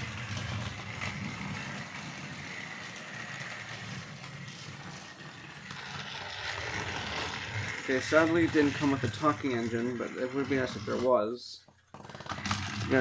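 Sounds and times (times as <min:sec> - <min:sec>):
toy engine motor whirring: 0:00.0 - 0:13.0.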